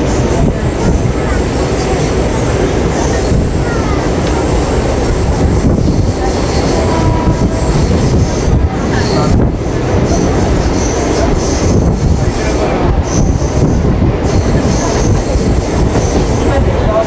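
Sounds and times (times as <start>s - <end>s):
train carriage rumbling and rattling: 0.0s - 17.0s.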